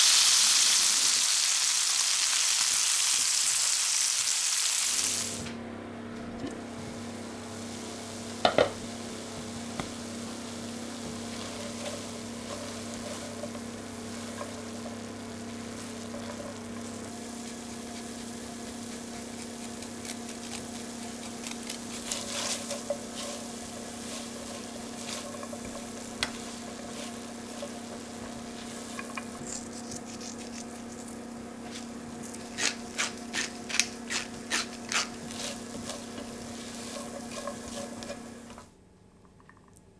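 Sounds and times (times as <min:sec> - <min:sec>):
risotto sizzling in a pan: 0:00.0 - 0:05.5, 0:06.8 - 0:38.7
steady low hum: 0:05.1 - 0:39.4.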